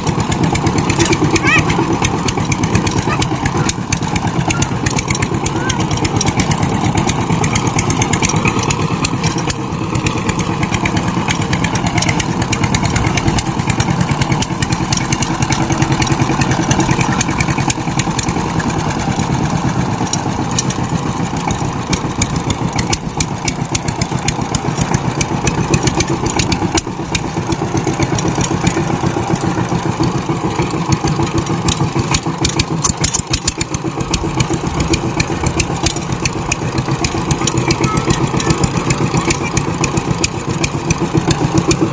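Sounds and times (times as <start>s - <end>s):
tiller engine running: 0.0s - 41.9s.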